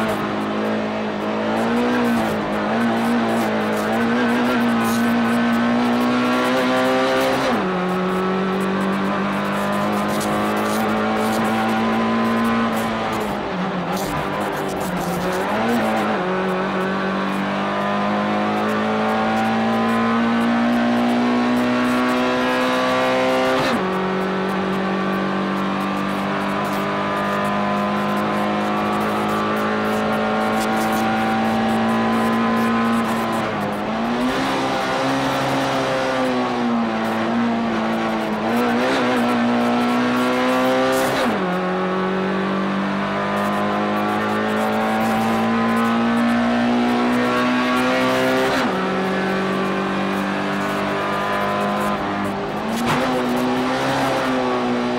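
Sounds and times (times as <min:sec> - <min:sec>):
race car engine at high revs: 0:00.0 - 0:54.9.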